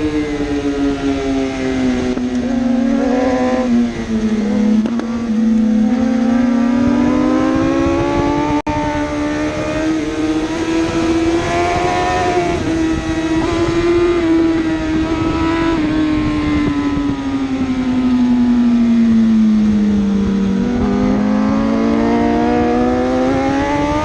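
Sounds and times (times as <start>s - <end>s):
motorcycle engines racing: 0.0s - 24.0s.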